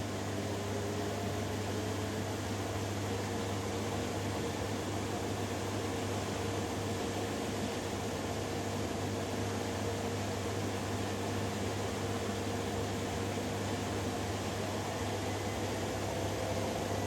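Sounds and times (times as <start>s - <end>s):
washing machines spinning: 0.0s - 17.0s.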